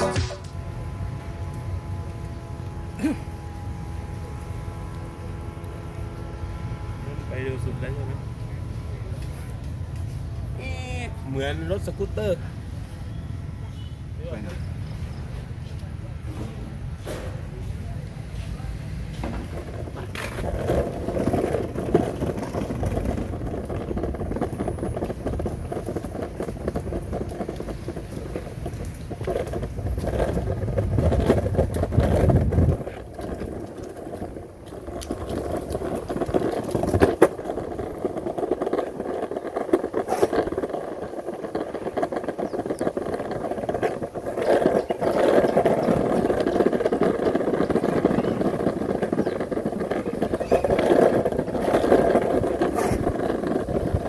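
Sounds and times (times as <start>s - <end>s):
skateboard wheels rolling on pavement: 0.0s - 54.0s.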